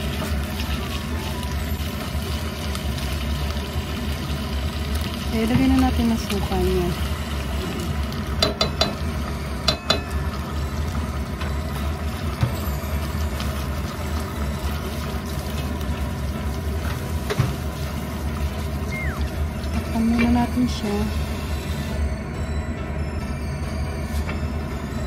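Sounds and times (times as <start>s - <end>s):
chicken wings sizzling in a pot: 0.0s - 22.3s.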